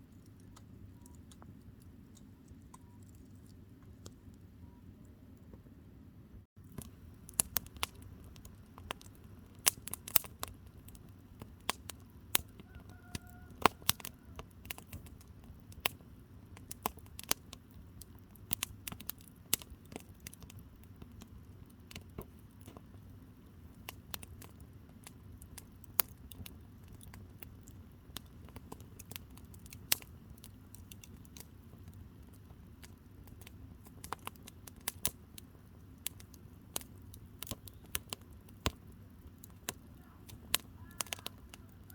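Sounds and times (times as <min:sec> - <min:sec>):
firewood crackling and popping: 0:00.0 - 0:04.4, 0:06.6 - 0:41.9
low fire rumble: 0:00.0 - 0:41.9.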